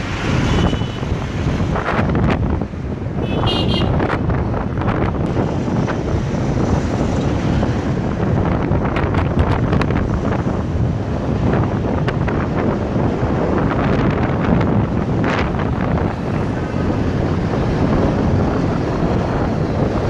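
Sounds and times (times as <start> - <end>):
motorcycle road and engine noise: 0.0 - 20.0
wind buffeting microphone: 0.0 - 20.0.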